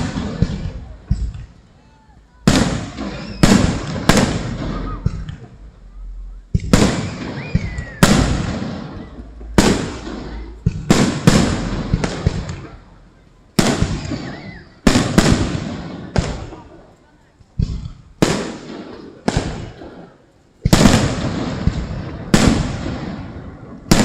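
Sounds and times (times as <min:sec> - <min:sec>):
fireworks bursting with booms: 0:00.0 - 0:24.0.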